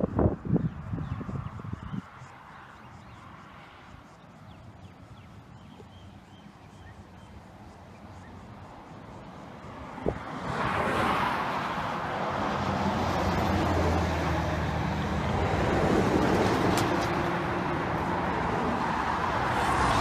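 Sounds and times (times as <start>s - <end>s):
tyre and road noise: 0.0s - 20.0s.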